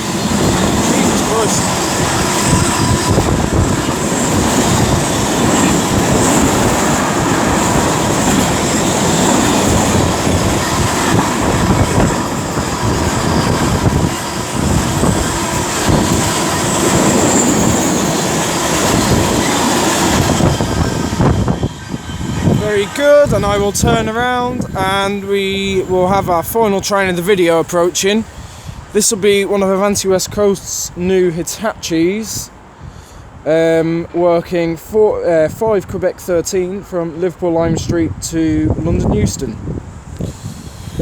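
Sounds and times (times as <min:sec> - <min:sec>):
freight train wheels on rails: 0:00.0 - 0:41.0.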